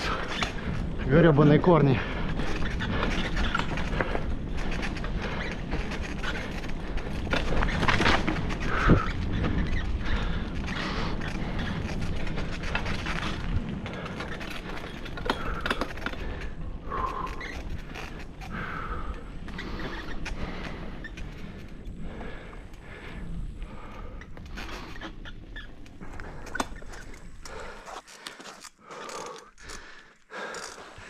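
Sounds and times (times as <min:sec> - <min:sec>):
wind noise: 0:00.0 - 0:27.8
bicycle rattling over trail: 0:00.0 - 0:31.0
short creaks: 0:02.3 - 0:31.0.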